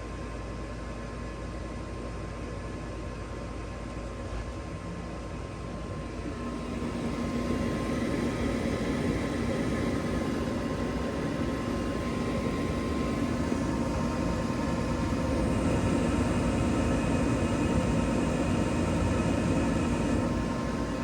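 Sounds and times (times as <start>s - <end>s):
furnace fan motor humming: 0.0s - 21.0s.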